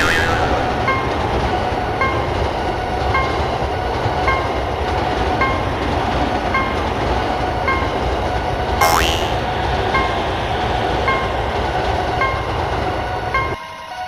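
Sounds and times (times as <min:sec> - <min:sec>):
train rail noise: 0:00.0 - 0:14.0.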